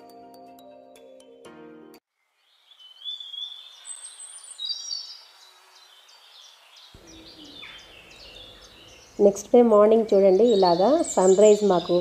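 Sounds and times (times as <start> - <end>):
small birds chirping: 2.2 - 12.0.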